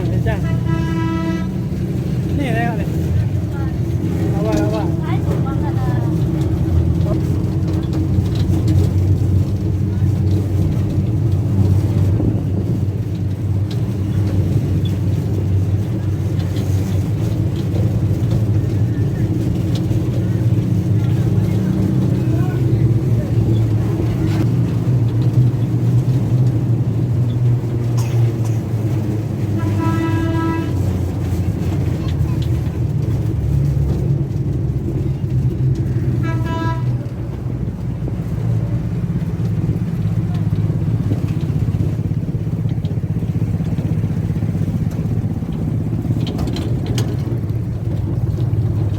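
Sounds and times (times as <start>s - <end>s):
train engine droning: 0.0s - 48.9s.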